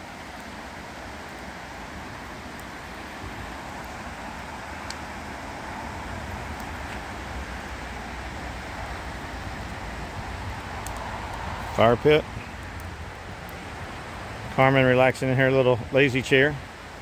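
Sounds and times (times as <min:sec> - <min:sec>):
river rushing over rapids: 0:00.0 - 0:17.0.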